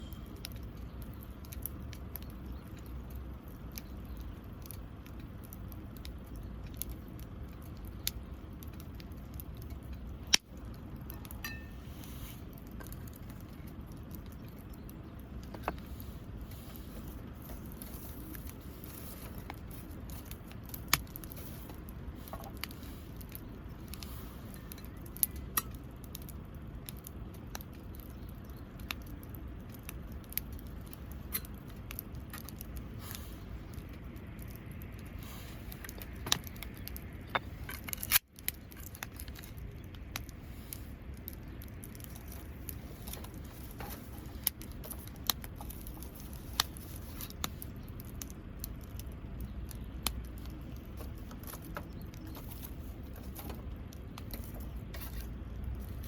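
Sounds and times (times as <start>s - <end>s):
campfire crackling and popping: 0.0s - 56.0s
steady low rumble: 0.0s - 56.0s.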